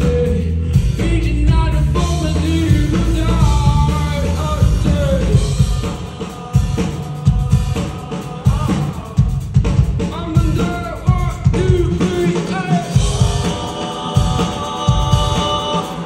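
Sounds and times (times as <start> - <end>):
person singing: 0.0 - 16.0
rock band playing: 0.0 - 16.0.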